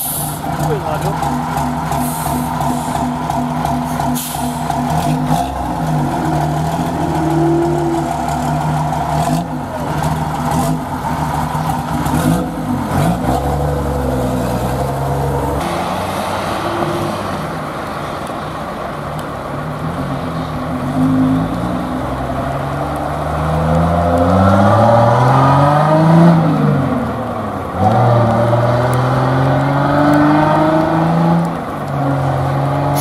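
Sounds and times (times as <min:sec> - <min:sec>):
diesel lorry engine revving: 0:00.0 - 0:33.0.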